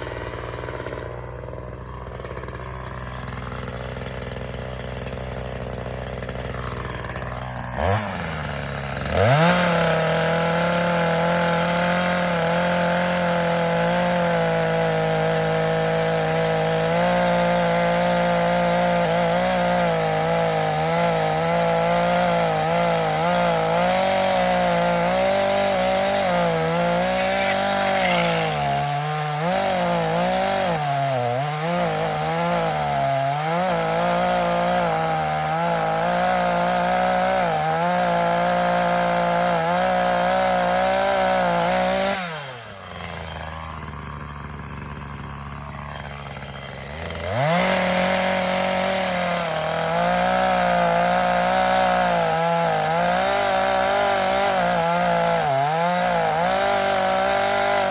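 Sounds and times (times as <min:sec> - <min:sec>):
chainsaw cutting into wood: 0:00.0 - 0:57.9
chainsaw engine revving: 0:00.0 - 0:57.9.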